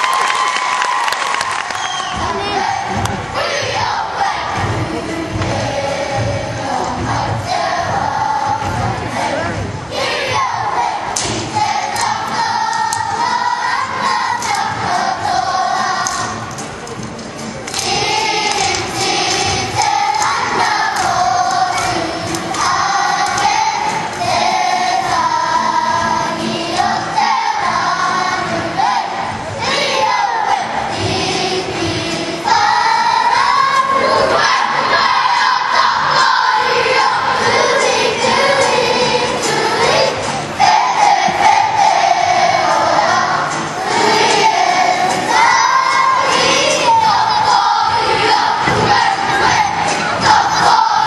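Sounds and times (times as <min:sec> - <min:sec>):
children singing in unison: 0:01.4 - 0:16.7, 0:17.7 - 0:51.0.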